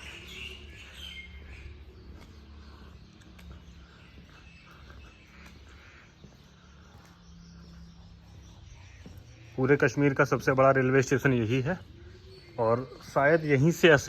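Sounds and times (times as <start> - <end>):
distant birds chirping: 0.0 - 14.0.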